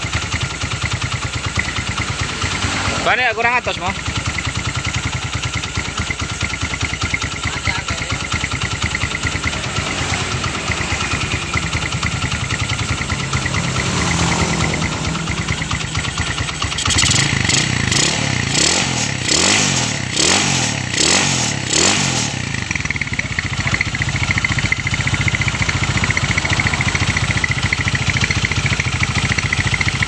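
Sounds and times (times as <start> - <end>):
engine idling: 0.0 - 30.0
engine revving: 0.0 - 30.0.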